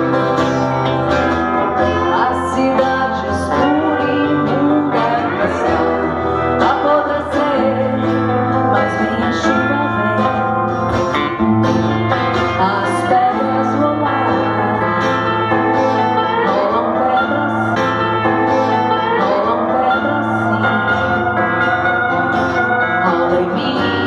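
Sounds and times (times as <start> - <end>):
live band music with guitar: 0.0 - 24.0.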